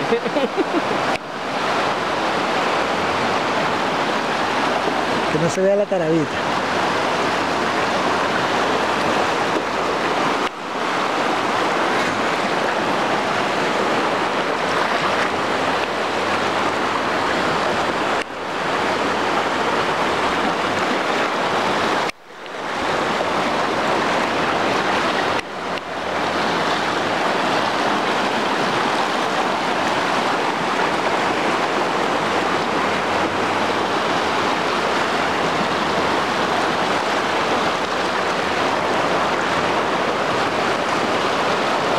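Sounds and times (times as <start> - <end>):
loud rush of river water: 0.0 - 41.9.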